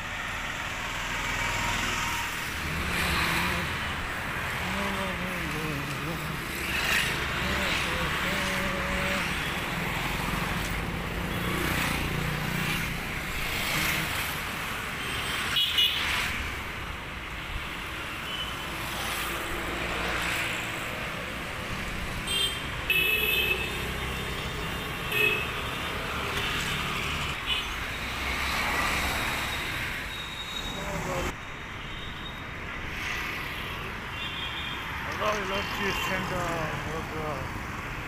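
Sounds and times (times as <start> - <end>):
vehicles passing: 0.0 - 31.8, 32.5 - 38.0.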